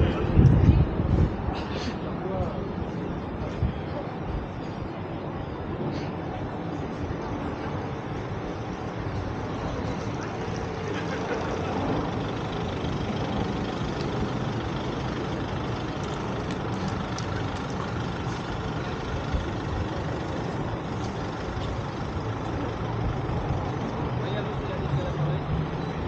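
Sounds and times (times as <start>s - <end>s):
heavy vehicle engines idling: 0.0s - 26.0s
road noise: 0.0s - 26.0s.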